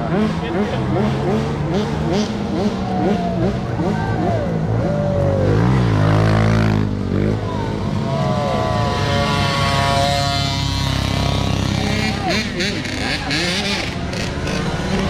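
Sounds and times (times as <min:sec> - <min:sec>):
motocross bikes revving: 0:00.0 - 0:15.0
motorbike passing: 0:00.0 - 0:15.0.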